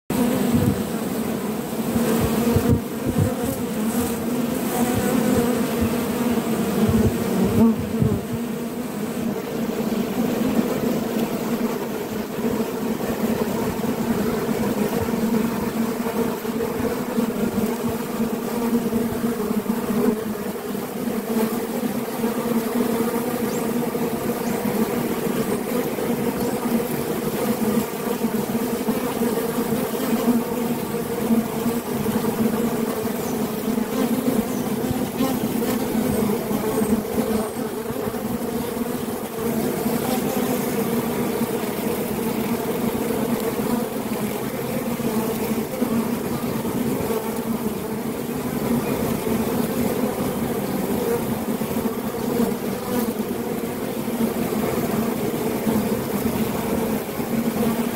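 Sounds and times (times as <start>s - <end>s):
bees buzzing: 0.1s - 57.9s.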